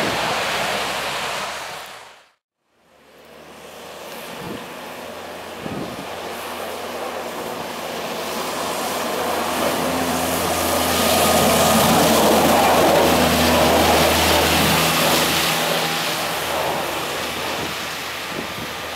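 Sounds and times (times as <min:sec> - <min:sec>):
plow blade pushing snow: 0:03.0 - 0:18.9
truck engine passing by: 0:03.1 - 0:18.9.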